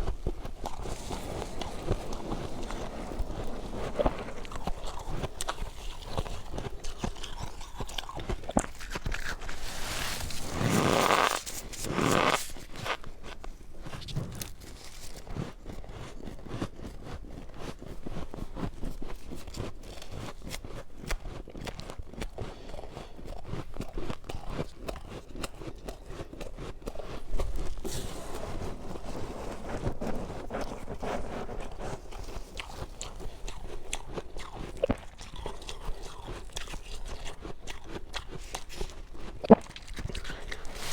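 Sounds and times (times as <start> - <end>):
crunchy chewing of frost: 0.0 - 40.9.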